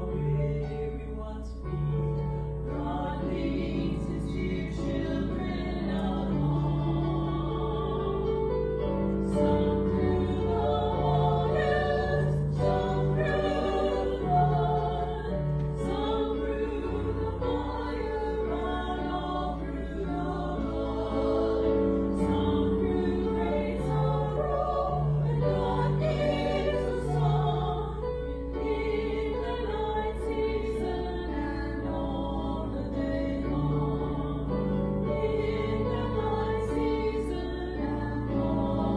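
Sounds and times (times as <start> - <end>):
choir singing held chords: 0.0 - 38.9.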